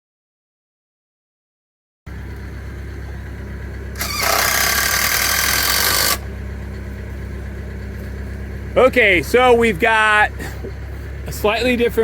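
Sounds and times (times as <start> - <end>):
vehicle engine idling: 2.1 - 12.0.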